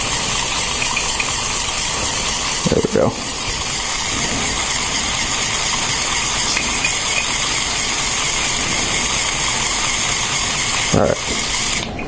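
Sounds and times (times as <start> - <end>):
toy motor whirring: 0.0 - 12.0.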